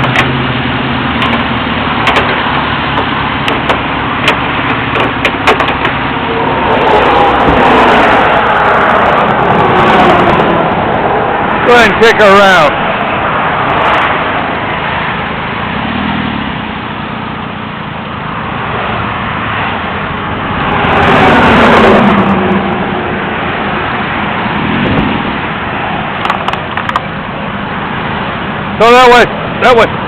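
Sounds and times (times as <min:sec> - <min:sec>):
vehicle passing loudly: 0:00.0 - 0:26.3
highway traffic rushing: 0:00.0 - 0:30.0.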